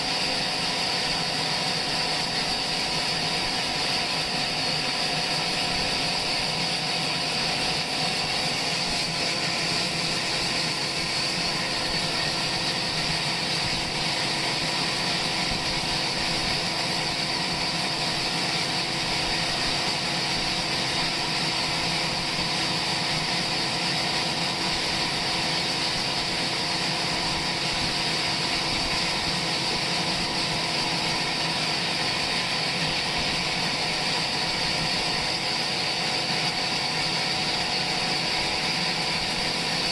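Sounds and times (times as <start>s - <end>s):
sawmill machinery hum and whine: 0.0s - 39.9s.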